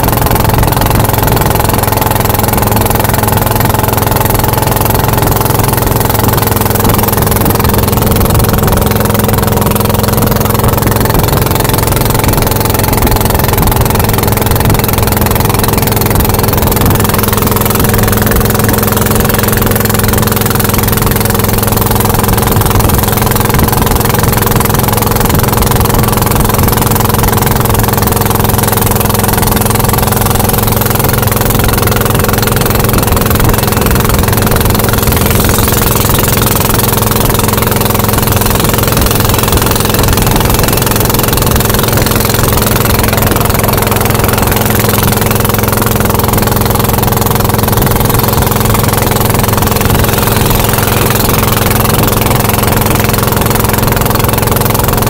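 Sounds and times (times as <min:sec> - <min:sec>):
boat engine running: 0:00.0 - 0:55.0
water spray rushing: 0:00.0 - 0:55.0
wind: 0:00.0 - 0:55.0.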